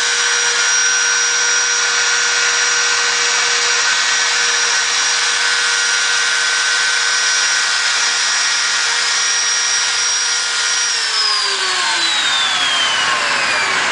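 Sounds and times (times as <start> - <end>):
machine spindle whining: 0.0 - 13.9.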